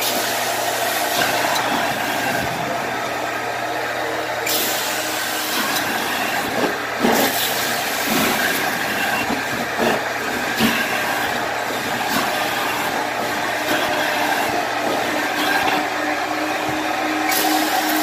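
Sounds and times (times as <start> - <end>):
carpet cleaning machine running: 0.0 - 18.0.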